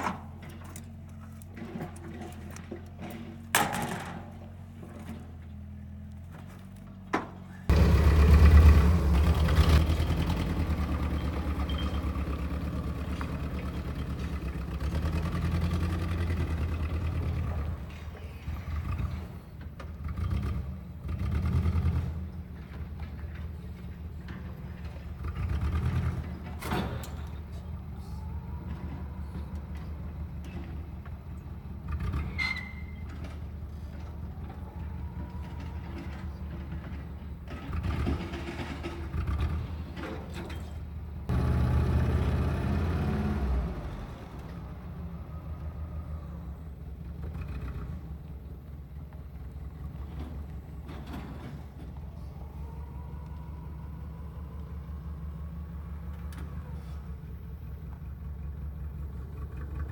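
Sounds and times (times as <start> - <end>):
forklift engine running: 0.0 - 59.9.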